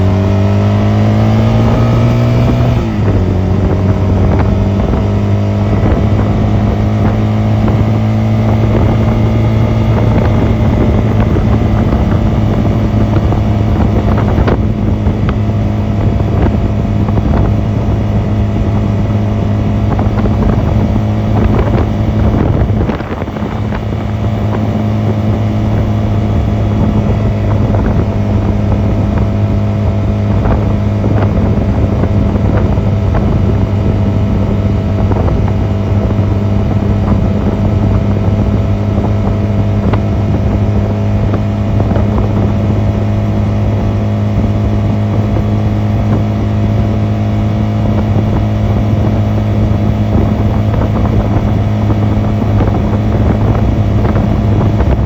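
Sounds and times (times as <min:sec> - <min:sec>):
motorcycle engine running: 0:00.0 - 0:55.0
wind on microphone: 0:00.0 - 0:55.0.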